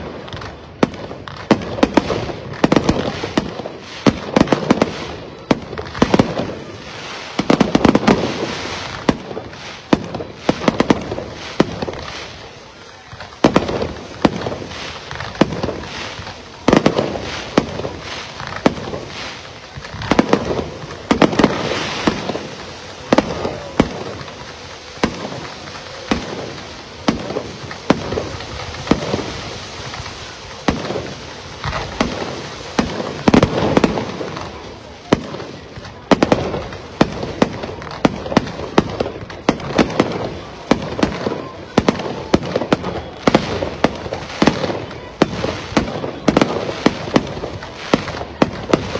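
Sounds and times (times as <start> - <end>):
sharp bangs and crackles with echo: 0.0 - 48.9.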